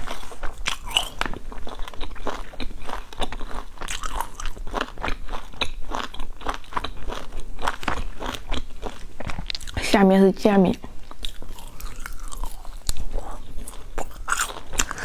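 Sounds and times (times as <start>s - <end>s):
person chewing crunchy snack: 0.0s - 9.8s, 10.9s - 15.0s.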